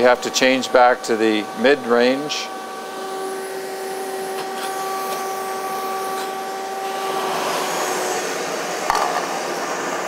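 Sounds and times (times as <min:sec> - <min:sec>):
fan whine: 0:00.0 - 0:10.0.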